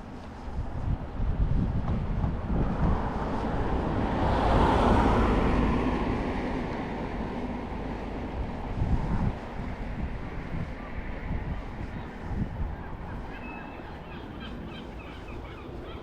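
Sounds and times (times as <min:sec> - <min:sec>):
wind rumble on microphone: 0:00.0 - 0:16.0
vehicle passing by: 0:02.2 - 0:16.0.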